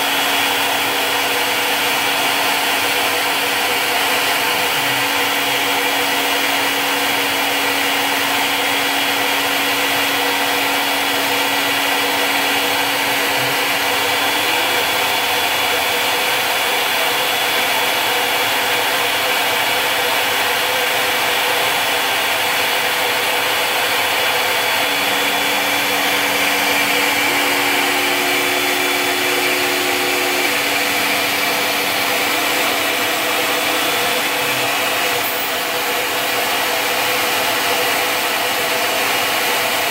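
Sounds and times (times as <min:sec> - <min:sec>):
cutter milling wood: 0:00.0 - 0:39.9
milling machine spindle whine: 0:00.0 - 0:39.9.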